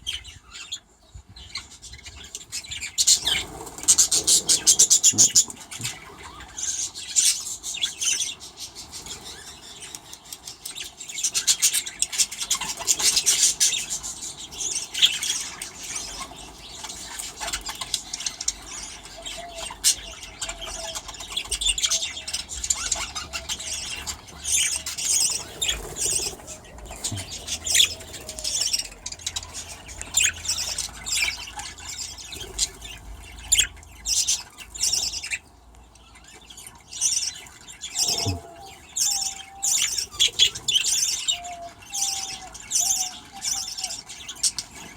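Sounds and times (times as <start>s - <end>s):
budgerigars chattering and chirping: 0.0s - 44.9s.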